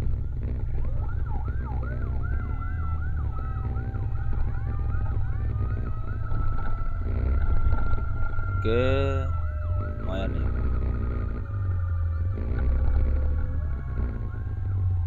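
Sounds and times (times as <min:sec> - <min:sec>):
constant low rumble: 0:00.0 - 0:15.0
electronic siren yelping: 0:00.0 - 0:15.0.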